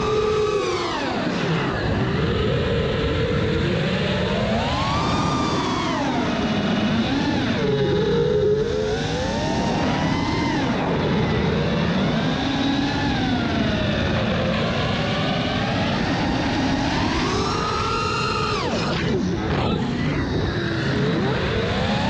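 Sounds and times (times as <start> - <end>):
drone motors whining: 0.0 - 22.0
wind noise: 0.0 - 22.0.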